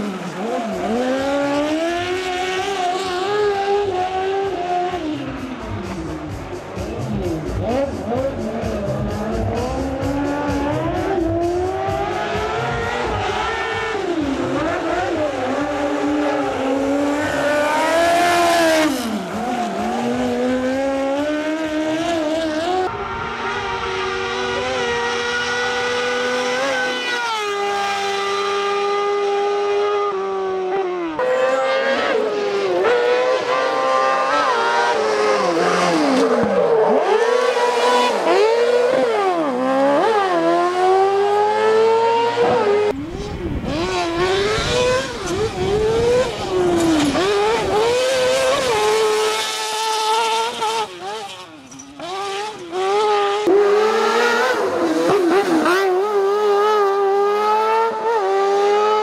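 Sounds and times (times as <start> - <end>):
high-revving buggy engines: 0.0 - 59.0.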